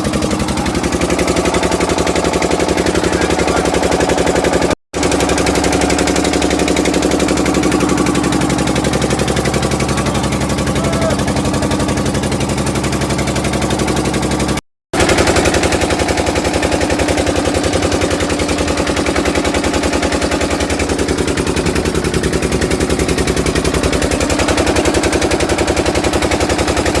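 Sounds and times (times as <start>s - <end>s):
engine running with pulsing beat: 0.0s - 27.0s.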